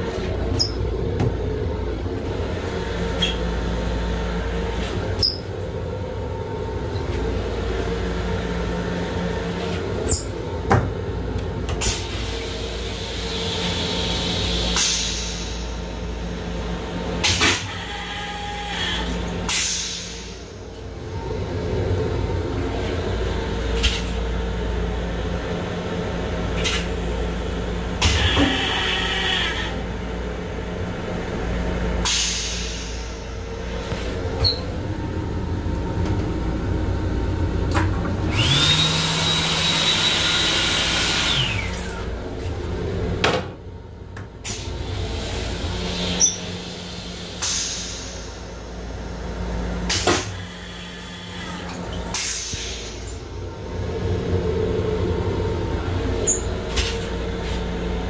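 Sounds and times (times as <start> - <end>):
railcar rumble and hum: 0.0 - 58.0.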